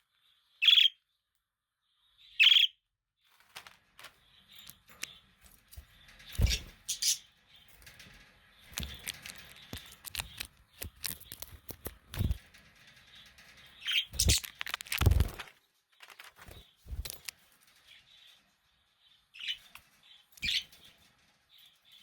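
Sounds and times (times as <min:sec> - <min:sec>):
light clicks and scratches: 0:03.3 - 0:22.0.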